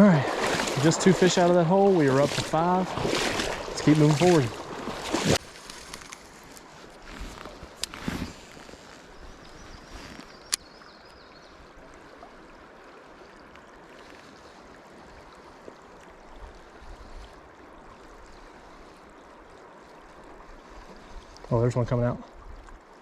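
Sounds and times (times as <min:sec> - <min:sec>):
water running over rocks: 0:00.0 - 0:23.0.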